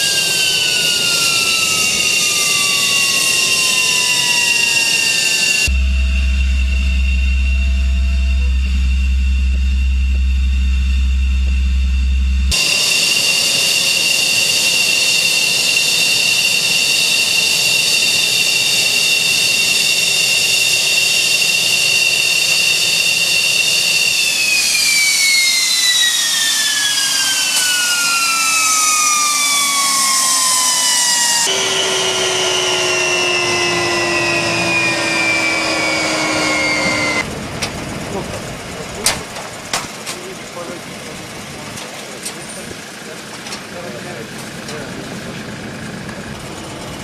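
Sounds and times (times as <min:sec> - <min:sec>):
jet engines whining: 0:00.0 - 0:47.0.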